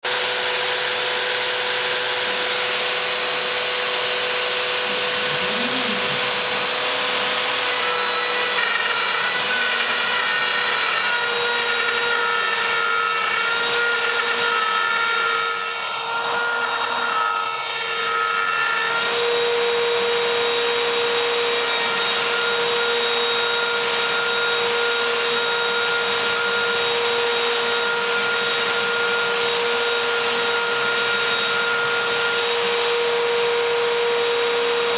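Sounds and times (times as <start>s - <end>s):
cnc router spindle whine: 0.1s - 34.9s.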